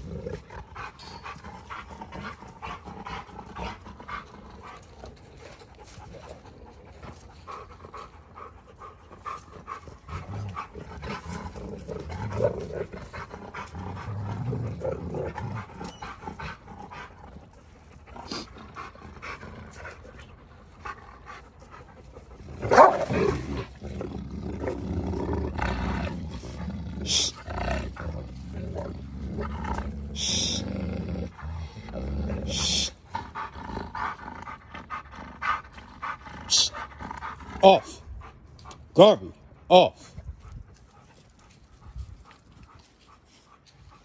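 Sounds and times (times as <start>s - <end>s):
dogs growling in a scuffle: 0.0s - 38.9s, 40.1s - 44.0s.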